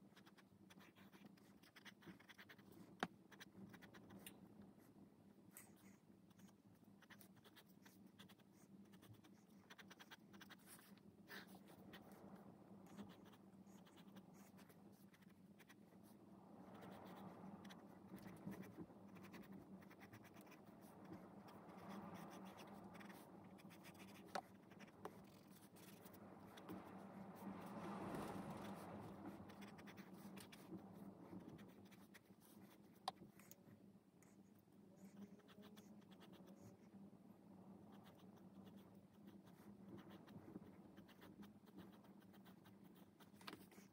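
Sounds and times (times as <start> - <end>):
pencil scratching on paper: 0.0 - 37.0, 37.9 - 43.9
faint steady hum: 0.0 - 43.9.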